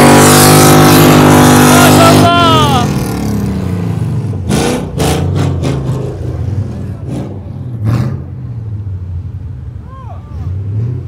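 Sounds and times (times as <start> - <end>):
engine running and revving: 0.0 - 9.3, 10.2 - 11.0.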